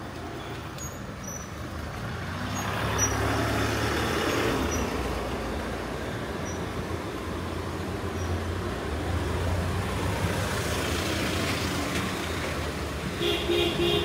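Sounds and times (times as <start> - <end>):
vehicle passing on road: 1.3 - 14.0.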